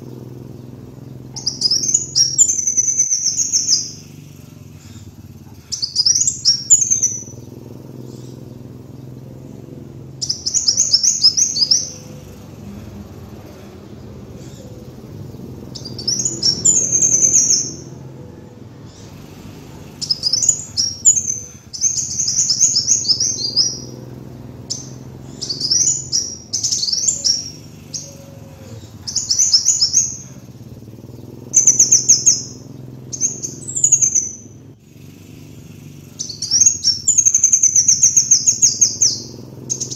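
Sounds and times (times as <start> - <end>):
bird twittering song: 0.0 - 39.9
faint low hum: 0.0 - 39.9.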